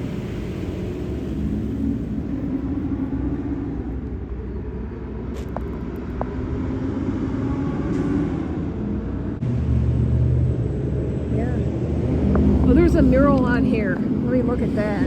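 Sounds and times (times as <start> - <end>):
deep loud hum: 0.0 - 15.0
low vehicle rumble: 0.0 - 15.0.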